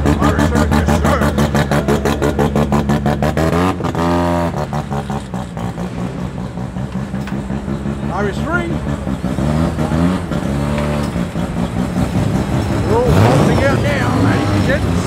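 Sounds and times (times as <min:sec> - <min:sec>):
car engine with pulsing exhaust: 0:00.0 - 0:15.0.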